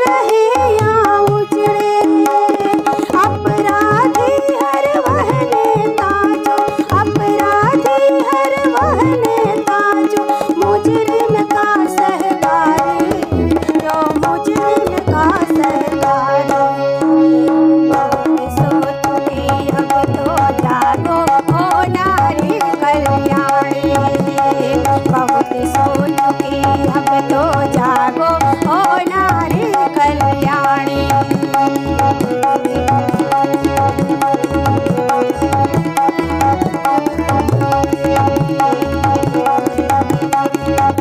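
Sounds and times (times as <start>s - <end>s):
harmonium chords: 0.0s - 41.0s
tabla rhythm: 0.0s - 41.0s
woman singing: 0.0s - 41.0s.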